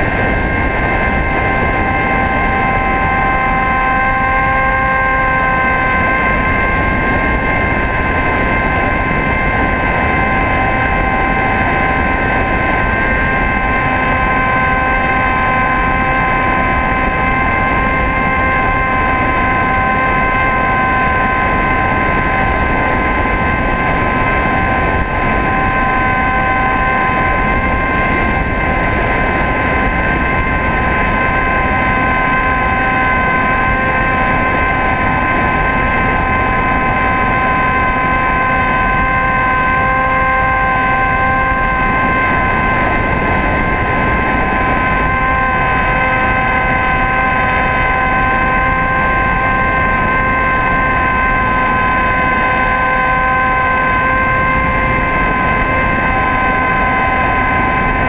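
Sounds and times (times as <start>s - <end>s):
electric motor and propeller whine: 0.0s - 58.0s
wind rush on microphone: 0.0s - 58.0s.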